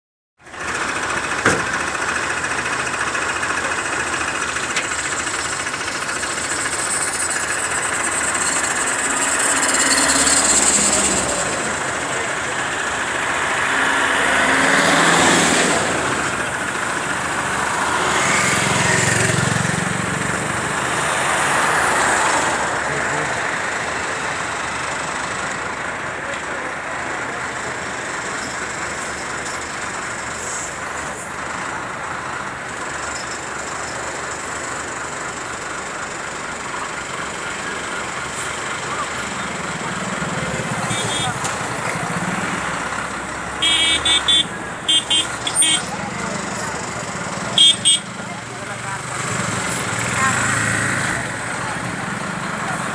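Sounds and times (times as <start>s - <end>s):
bus engine: 0.4s - 52.9s
road noise: 0.4s - 52.9s.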